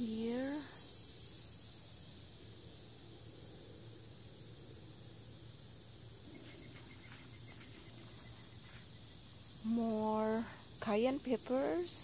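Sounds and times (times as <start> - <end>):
faint insect chirps: 0.0 - 12.0
high-pitched insect chorus: 0.0 - 12.0.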